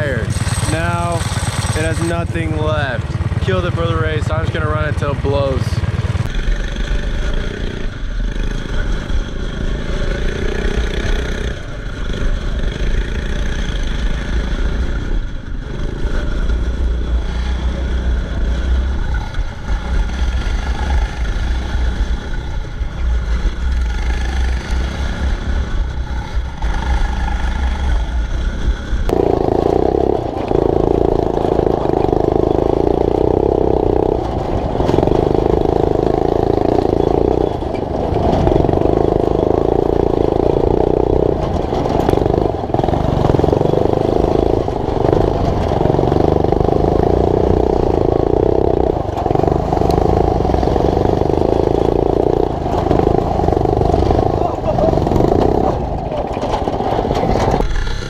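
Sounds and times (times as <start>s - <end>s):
kart clattering: 0.0s - 58.0s
small engine revving: 0.0s - 58.0s.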